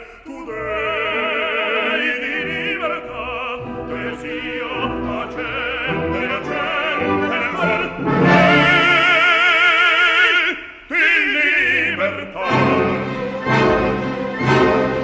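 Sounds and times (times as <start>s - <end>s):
operatic singing: 0.0s - 15.0s
orchestra playing: 0.8s - 9.6s, 11.7s - 15.0s.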